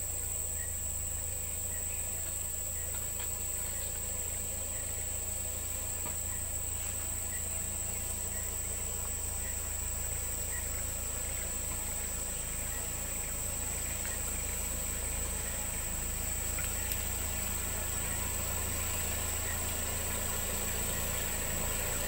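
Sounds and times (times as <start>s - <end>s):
faint chirps: 0.0s - 22.0s
high-pitched insect drone: 0.0s - 22.0s
low steady rumble: 0.0s - 22.0s.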